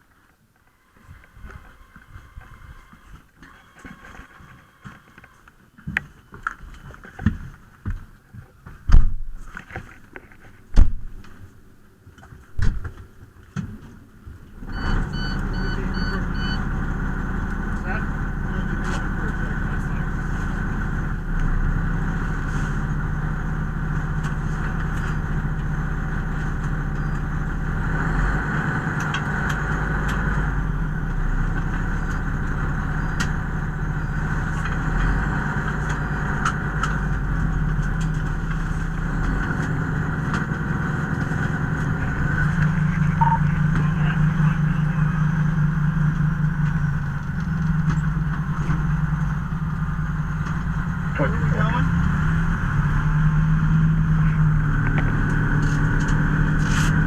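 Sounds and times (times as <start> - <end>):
vehicle engine droning: 0.0 - 9.6, 11.0 - 57.0.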